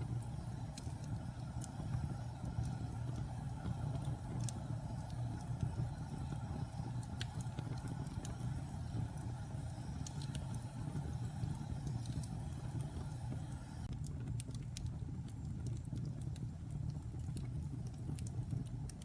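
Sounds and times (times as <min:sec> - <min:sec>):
fire crackling and popping: 0:00.0 - 0:19.0
fire rumbling in fireplace: 0:00.0 - 0:19.0.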